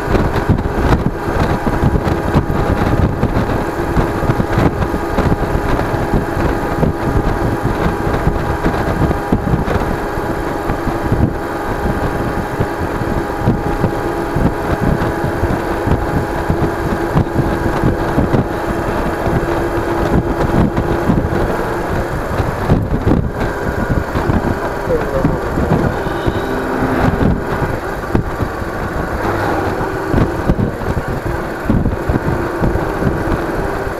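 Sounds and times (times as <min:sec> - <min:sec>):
motorcycle engine running: 0:00.0 - 0:33.9
wind buffeting microphone: 0:00.0 - 0:33.9.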